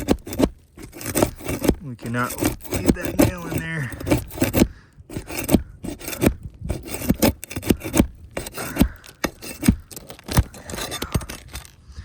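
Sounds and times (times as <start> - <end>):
metal scraping against shingle: 0.0 - 12.0.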